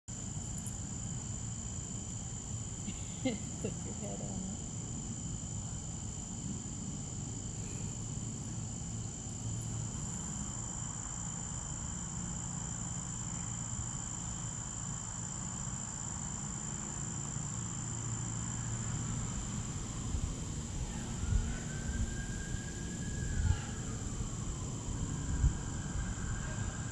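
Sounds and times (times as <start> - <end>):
crickets chirping: 0.1 - 26.9.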